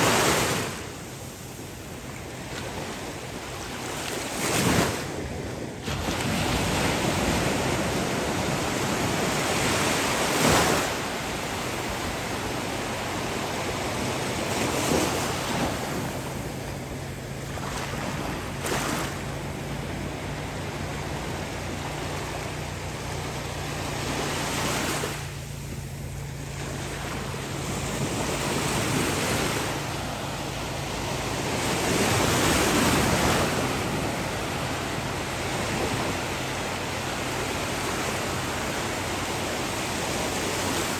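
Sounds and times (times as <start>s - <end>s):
waves breaking on beach: 0.0s - 40.9s.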